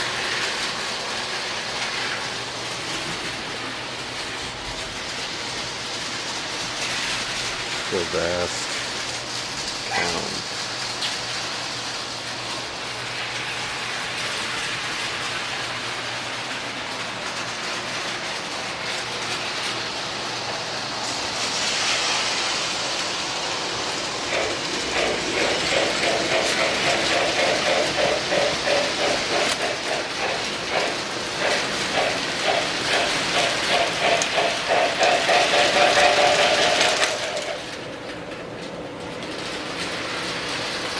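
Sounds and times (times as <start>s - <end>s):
toy train running on track: 0.0s - 40.9s
rhythmic clatter: 4.2s - 37.8s.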